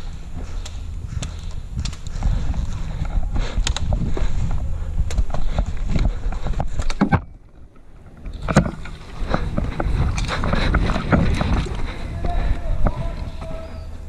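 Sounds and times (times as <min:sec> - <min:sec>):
wind buffeting microphone: 0:00.0 - 0:14.0
clicks and knocks of handling gear: 0:00.4 - 0:13.6.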